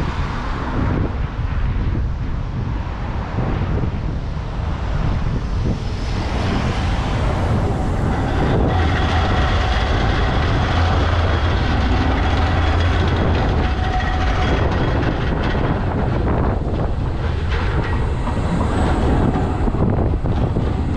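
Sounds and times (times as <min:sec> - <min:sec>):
tram running on rails: 0:00.0 - 0:20.9.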